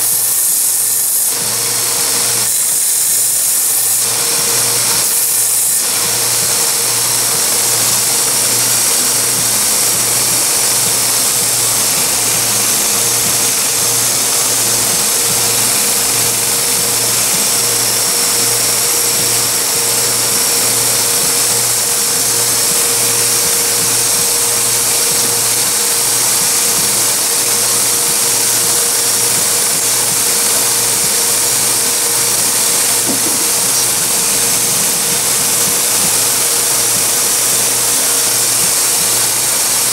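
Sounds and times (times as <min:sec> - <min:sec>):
belt grinder grinding: 0:00.0 - 0:39.9.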